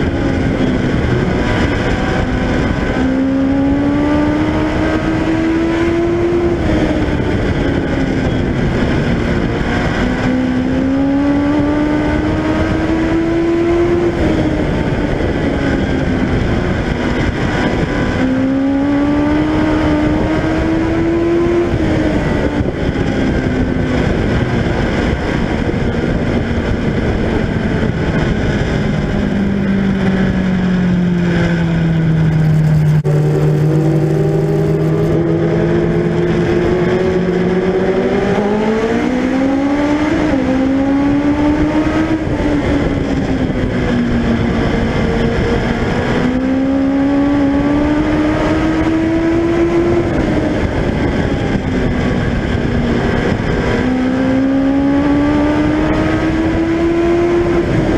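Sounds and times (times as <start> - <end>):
race car engine at speed: 0.0 - 57.9
wind noise: 0.0 - 57.9.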